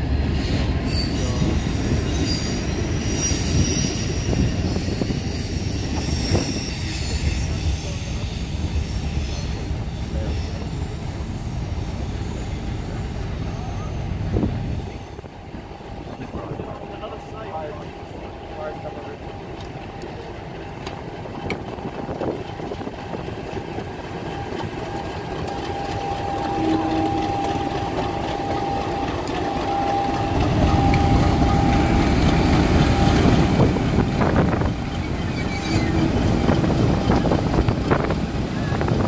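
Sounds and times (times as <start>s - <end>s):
diesel locomotive engine passing: 0.0s - 39.0s.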